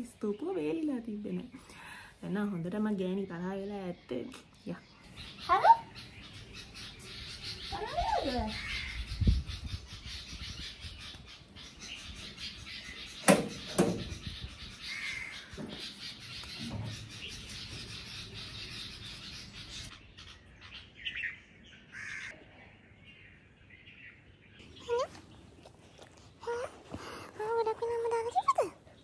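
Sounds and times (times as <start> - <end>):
birds calling: 0.0 - 29.0.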